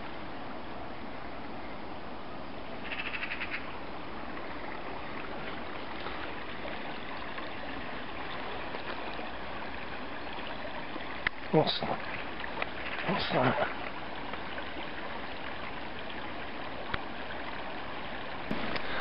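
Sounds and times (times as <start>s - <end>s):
stream running over stones: 0.0s - 19.0s.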